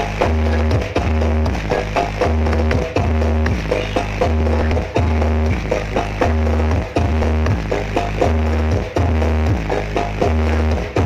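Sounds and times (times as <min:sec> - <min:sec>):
electronic dance music: 0:00.0 - 0:11.0
heavy pulsing bass: 0:00.0 - 0:11.0.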